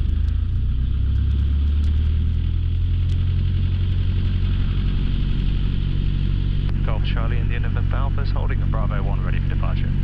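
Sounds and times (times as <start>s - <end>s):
aircraft piston engine idling: 0.0s - 10.0s.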